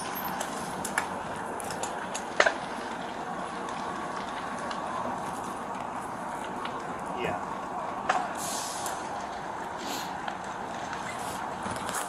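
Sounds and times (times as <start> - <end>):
building fire rushing: 0.0 - 12.0
fire popping: 0.0 - 12.0.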